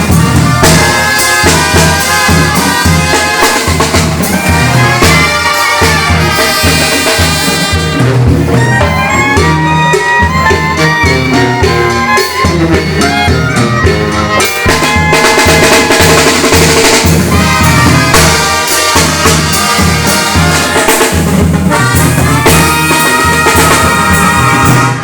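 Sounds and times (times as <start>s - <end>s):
brass band playing: 0.0s - 25.0s
drums: 0.0s - 25.0s
trumpets: 0.0s - 25.0s.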